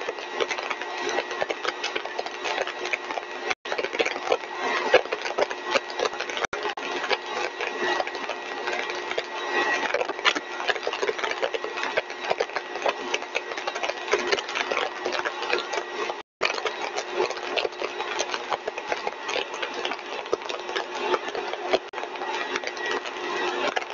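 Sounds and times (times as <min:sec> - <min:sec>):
compressor machine roar: 0:00.0 - 0:23.9.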